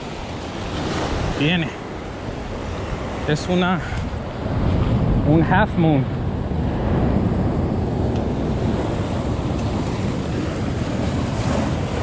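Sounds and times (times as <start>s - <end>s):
ocean surf washing over rocks: 0.0s - 12.0s
wind buffeting microphone: 0.0s - 12.0s.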